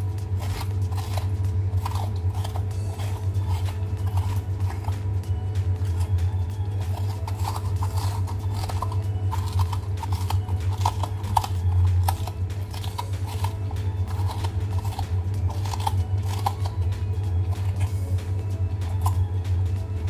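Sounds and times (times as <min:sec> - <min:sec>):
knife scraping potato skin: 0:00.0 - 0:05.2, 0:05.9 - 0:19.4
steady low hum: 0:00.0 - 0:20.0.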